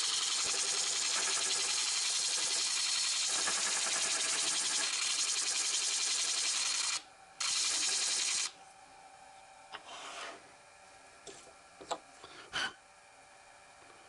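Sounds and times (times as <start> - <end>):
sanding disc running quietly: 0.0 - 11.6.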